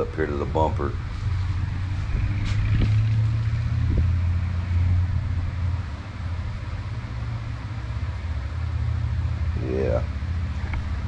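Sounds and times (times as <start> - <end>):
low mechanical rumble with hiss: 0.0 - 11.0.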